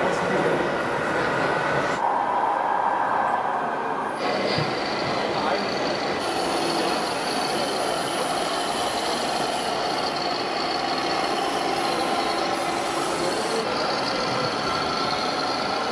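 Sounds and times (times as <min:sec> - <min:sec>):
busy exhibition hall noise: 0:00.0 - 0:15.9.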